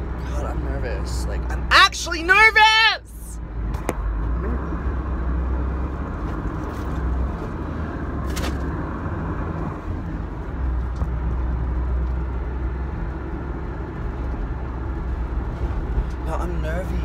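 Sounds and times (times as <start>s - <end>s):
van engine and road rumble: 0.0s - 17.0s.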